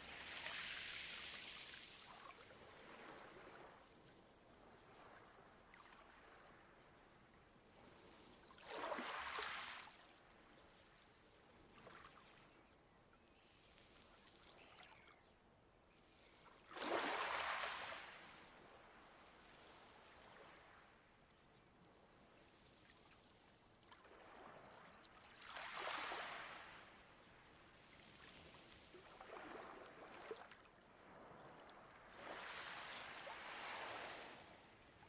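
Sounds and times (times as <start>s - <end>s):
faint water lapping: 0.0s - 15.2s, 22.1s - 35.0s.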